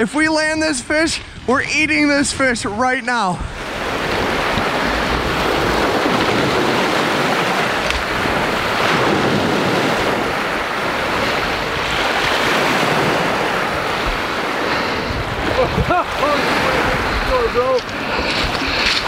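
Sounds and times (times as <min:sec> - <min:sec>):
wind buffeting microphone: 0:00.0 - 0:19.0
surf breaking on beach: 0:03.5 - 0:19.0.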